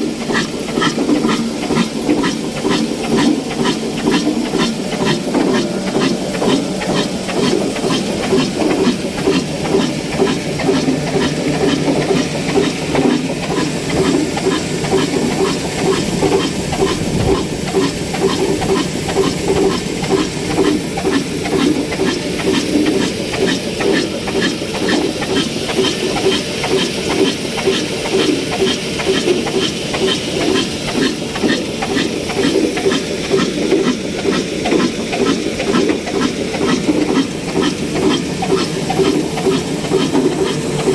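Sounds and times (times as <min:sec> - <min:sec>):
diesel engine knocking: 0:00.0 - 0:40.9
flour mill running: 0:00.0 - 0:40.9.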